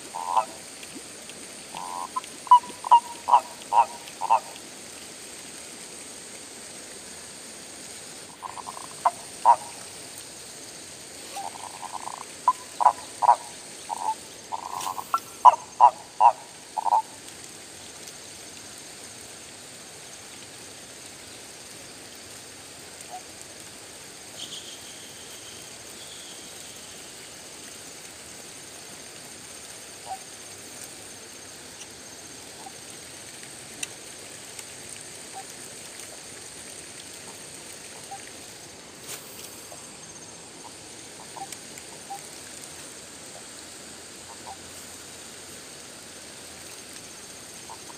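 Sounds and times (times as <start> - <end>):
frogs croaking: 0.0 - 5.4, 8.2 - 18.9, 24.4 - 47.9
steady hiss: 0.0 - 47.9.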